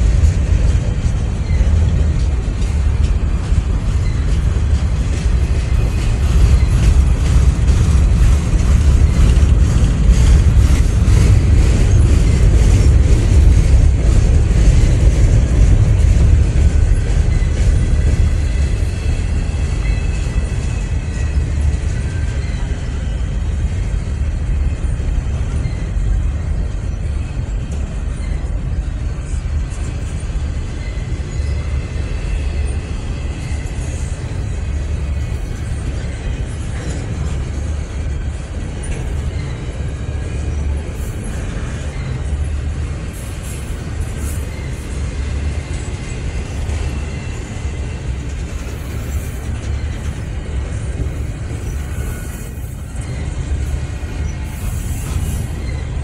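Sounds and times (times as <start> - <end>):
freight cars rumbling on rails: 0.0 - 56.0.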